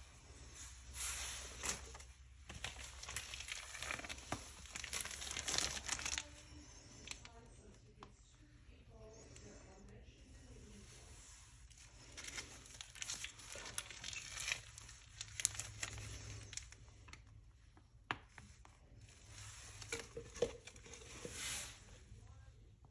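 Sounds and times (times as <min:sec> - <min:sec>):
plastic crinkling and rustling: 0:00.2 - 0:22.5.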